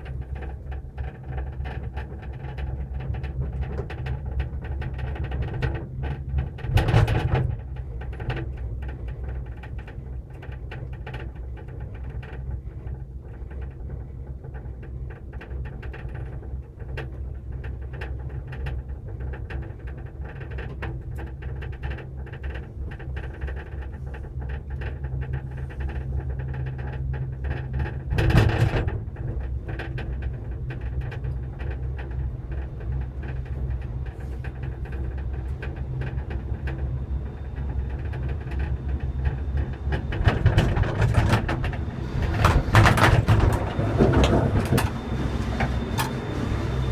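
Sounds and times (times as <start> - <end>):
gondola cabin humming: 0.0 - 46.9.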